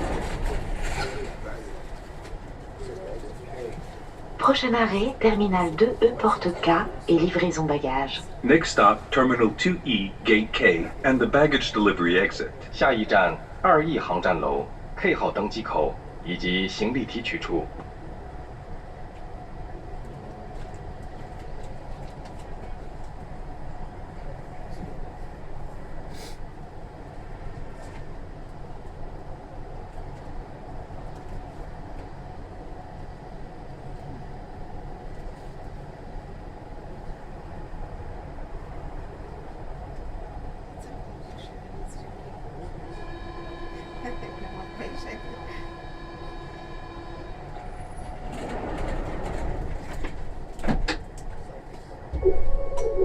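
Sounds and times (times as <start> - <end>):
shuttle train low drone: 0.0 - 53.0.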